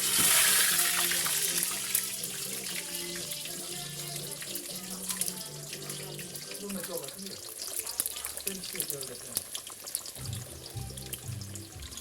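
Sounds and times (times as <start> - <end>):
water running from tap: 0.0 - 12.0.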